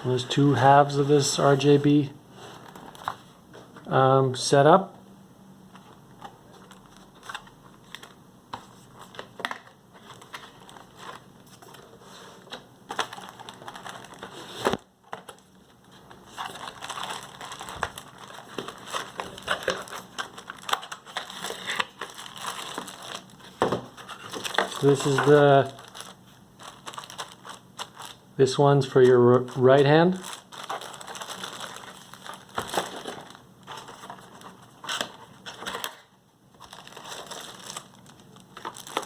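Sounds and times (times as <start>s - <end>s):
packaging crinkling: 2.6s - 3.2s, 6.5s - 8.2s, 8.8s - 28.2s, 28.9s - 39.0s.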